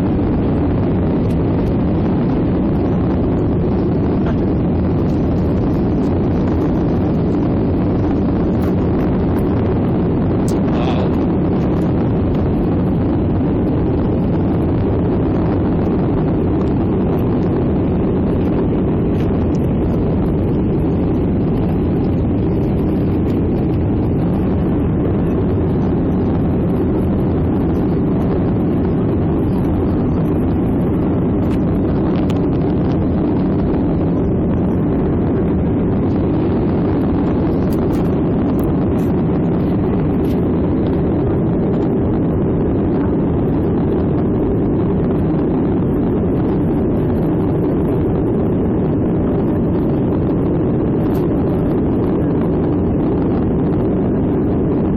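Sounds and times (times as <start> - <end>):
jet engines roaring on takeoff: 0.0 - 54.9.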